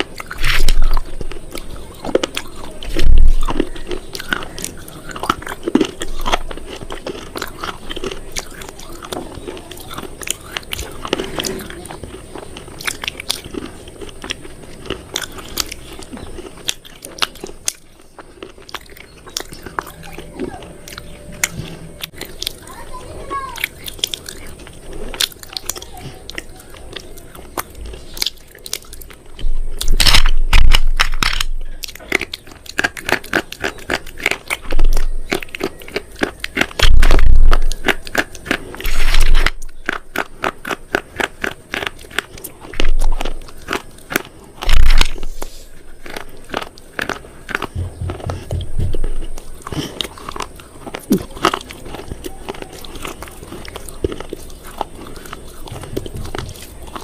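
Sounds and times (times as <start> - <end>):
crunching crisp food: 0.0 - 57.0.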